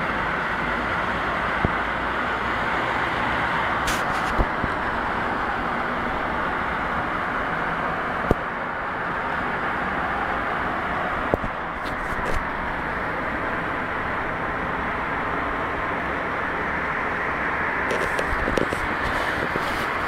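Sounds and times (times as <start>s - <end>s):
traffic rushing hum: 0.0s - 20.0s.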